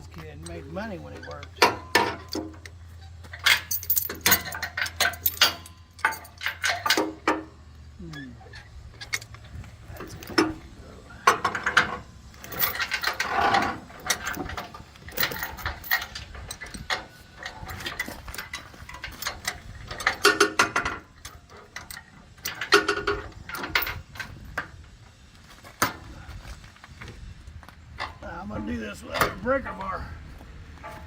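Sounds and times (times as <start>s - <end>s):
chain clanking: 0.3s - 26.7s, 30.8s - 31.0s.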